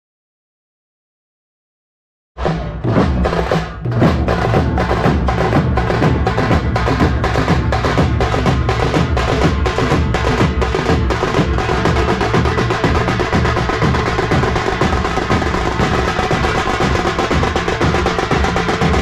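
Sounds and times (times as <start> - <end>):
drummers beating large drums: 2.4 - 19.0.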